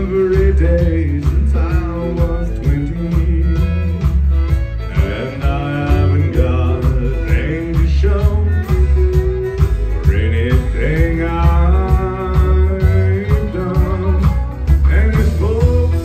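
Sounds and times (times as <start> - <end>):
drums keeping a steady beat: 0.0 - 16.0
fiddle: 0.0 - 16.0
guitars: 0.0 - 16.0.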